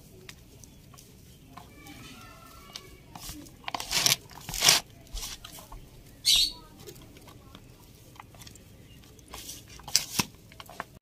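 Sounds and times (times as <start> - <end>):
hand mixing in plastic bowl: 0.0 - 11.0.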